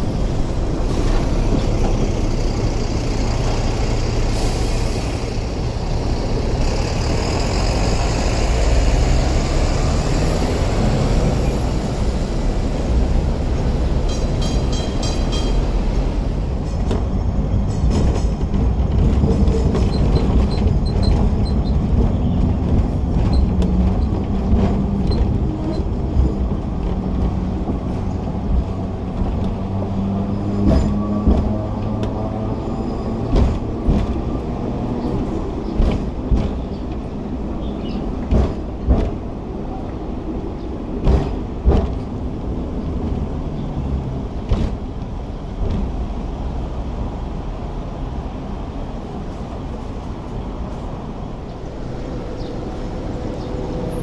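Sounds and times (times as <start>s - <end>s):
trams rumbling: 0.0s - 54.0s.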